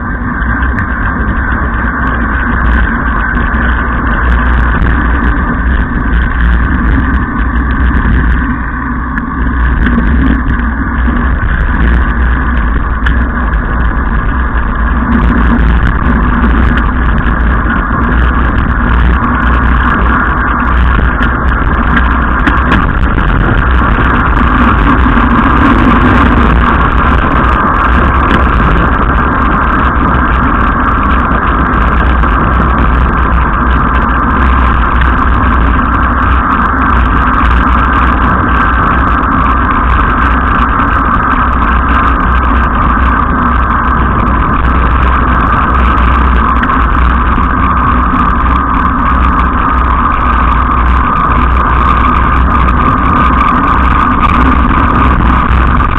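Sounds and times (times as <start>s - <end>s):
wheels rolling on wet asphalt: 0.0s - 55.9s
wind rushing over microphone: 0.0s - 55.9s.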